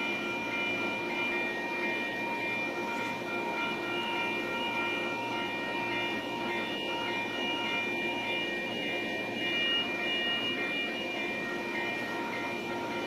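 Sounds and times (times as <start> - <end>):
thin whining tones: 0.0 - 13.0
train running drone: 0.0 - 13.0.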